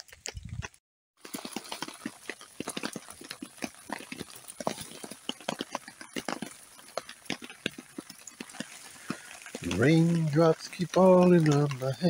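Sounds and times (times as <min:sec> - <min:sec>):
campfire crackling: 0:00.0 - 0:12.0
rain pattering: 0:00.0 - 0:12.0.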